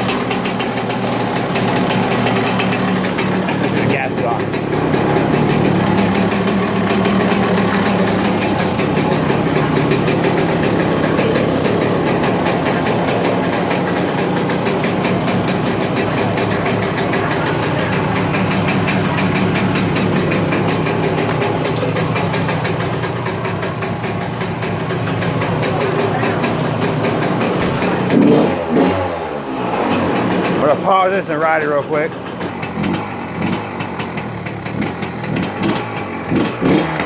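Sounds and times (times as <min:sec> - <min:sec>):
two-stroke engine idling: 0:00.0 - 0:37.0.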